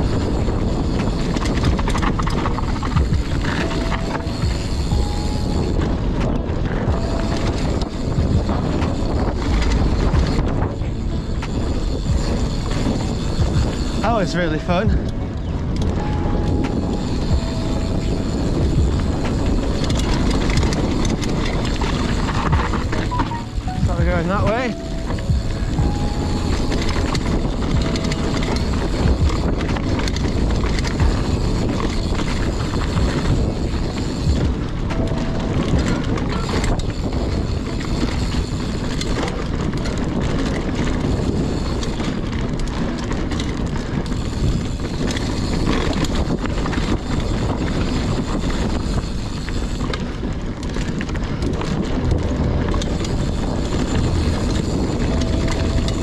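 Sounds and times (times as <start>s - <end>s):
bike tyres rumbling over ground: 0.0s - 56.0s
wind buffeting microphone: 0.0s - 56.0s.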